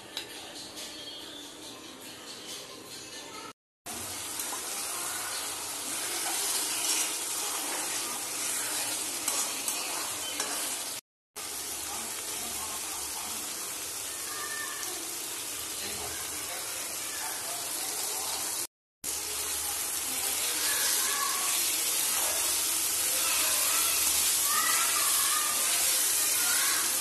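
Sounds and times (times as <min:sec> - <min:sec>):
meat sizzling in a pan: 0:03.9 - 0:27.0.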